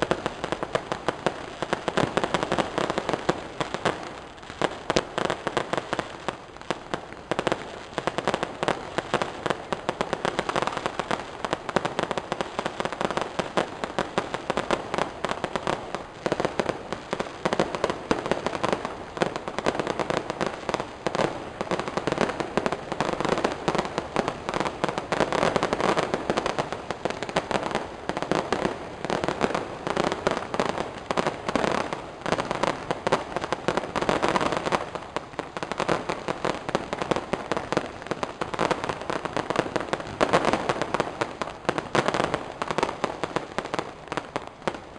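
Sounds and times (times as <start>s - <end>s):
firecrackers crackling: 0.0s - 44.9s.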